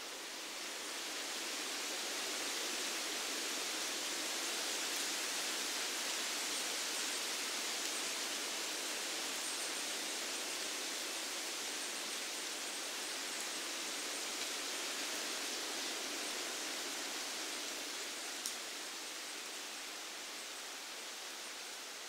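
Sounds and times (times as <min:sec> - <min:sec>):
wind rustling through leaves: 0:00.0 - 0:22.0.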